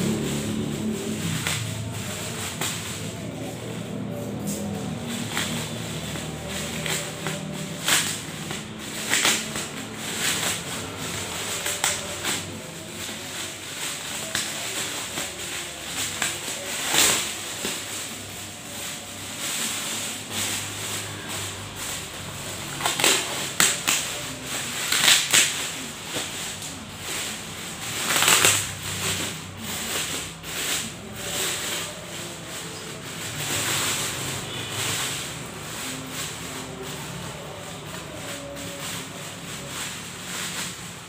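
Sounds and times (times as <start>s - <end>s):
plastic bag crinkling: 0.0s - 41.0s.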